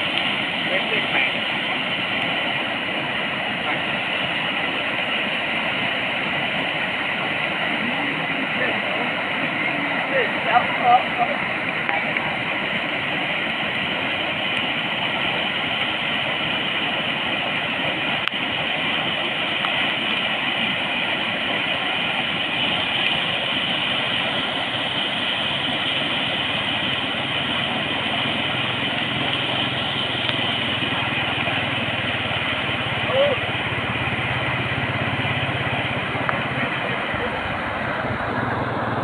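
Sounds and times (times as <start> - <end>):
water rushing over weir: 0.0 - 39.0.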